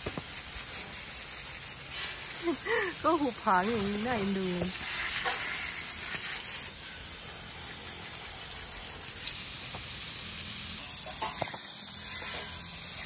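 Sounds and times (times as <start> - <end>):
water hissing from hose nozzle: 0.0 - 13.0
water spattering on wet ground: 0.0 - 13.0.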